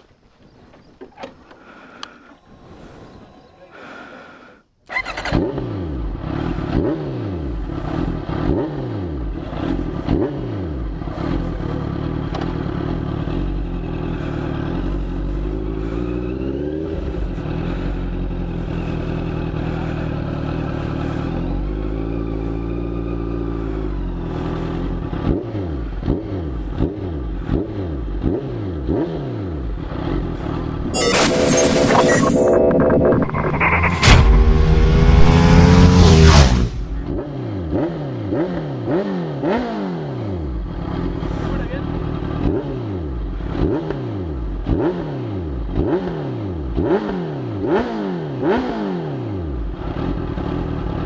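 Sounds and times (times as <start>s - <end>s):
motorcycle engine revving: 4.9s - 30.9s, 32.7s - 51.0s.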